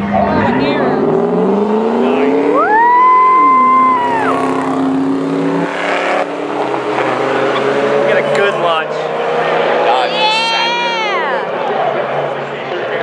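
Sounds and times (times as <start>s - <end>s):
pickup engines accelerating: 0.0s - 13.0s.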